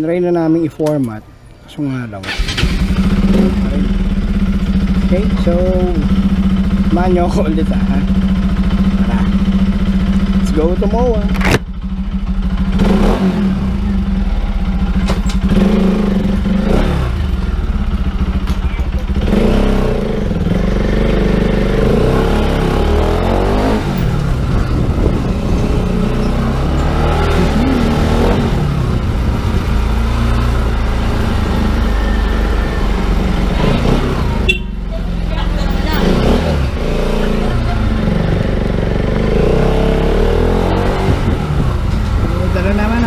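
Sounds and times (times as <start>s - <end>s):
motorcycle engine revving: 2.2s - 43.0s.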